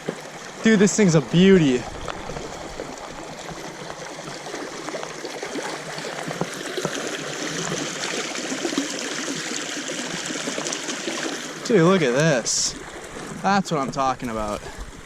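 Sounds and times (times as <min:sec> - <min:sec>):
stream burbling: 0:00.0 - 0:15.0.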